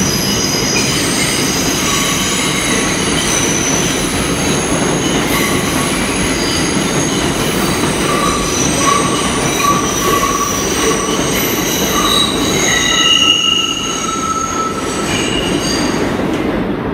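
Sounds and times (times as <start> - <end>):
wheel squeal: 0.0 - 16.3
subway train rumble: 0.0 - 16.9.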